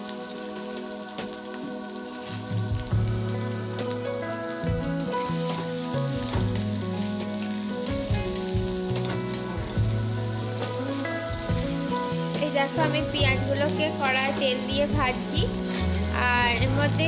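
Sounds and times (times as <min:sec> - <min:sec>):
background music with held notes: 0:00.0 - 0:17.0
onions sizzling in oil: 0:00.0 - 0:17.0.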